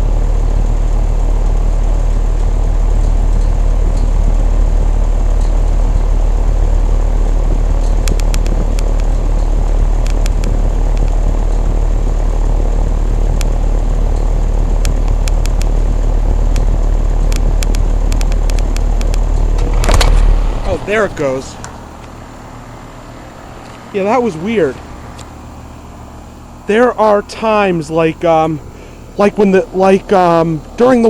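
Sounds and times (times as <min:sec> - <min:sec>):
air conditioner unit humming: 0:00.0 - 0:31.0.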